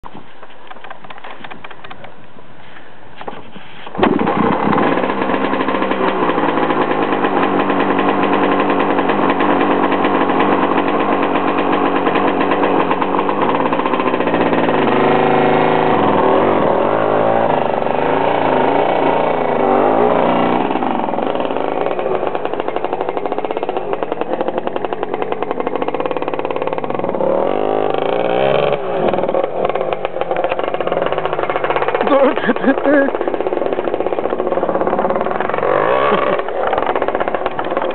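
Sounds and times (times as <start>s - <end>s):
dirt bike engine revving: 4.0s - 37.9s.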